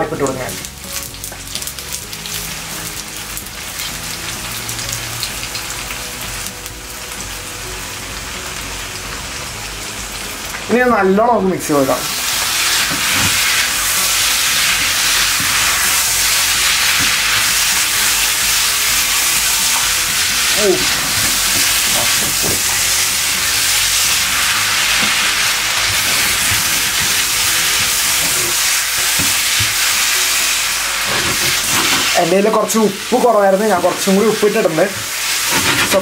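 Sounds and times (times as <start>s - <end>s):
curry sizzling in a pan: 0.0s - 36.0s.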